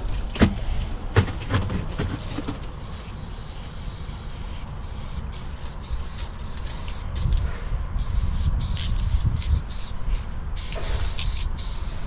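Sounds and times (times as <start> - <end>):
spray paint can hissing: 1.7 - 7.4, 8.0 - 12.0.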